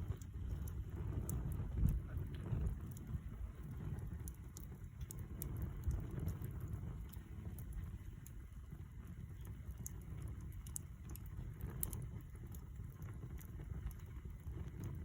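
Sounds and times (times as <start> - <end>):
campfire crackling: 0.0 - 15.0
fire low rumble: 0.0 - 15.0.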